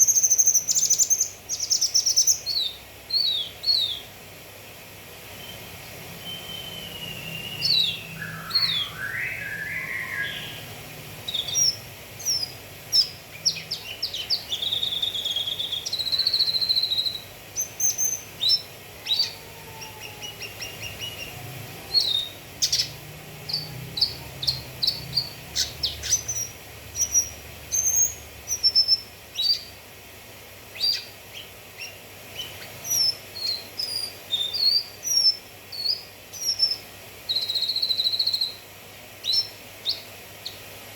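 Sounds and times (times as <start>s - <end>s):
songbird singing: 0.0s - 4.2s, 5.2s - 30.0s, 30.6s - 40.8s.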